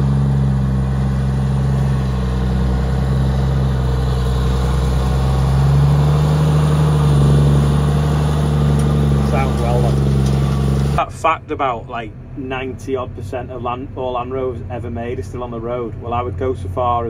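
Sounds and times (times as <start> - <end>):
large diesel engine running: 0.0 - 17.0.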